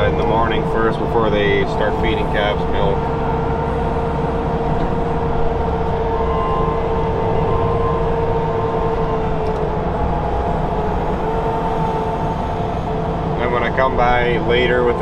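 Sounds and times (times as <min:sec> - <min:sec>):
high whine: 0:00.0 - 0:15.0
loader engine drone: 0:00.0 - 0:15.0.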